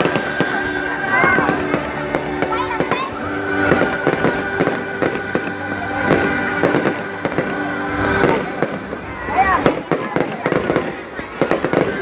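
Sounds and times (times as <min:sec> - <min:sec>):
fireworks exploding: 0:00.0 - 0:12.0
music playing: 0:00.0 - 0:12.0.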